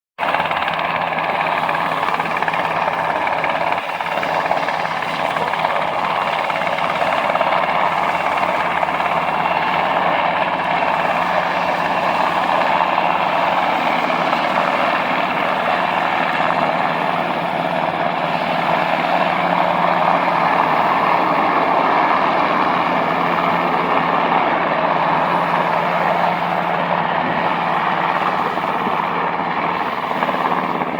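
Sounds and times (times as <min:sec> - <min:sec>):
helicopter rotor and engine drone: 0:00.2 - 0:30.9.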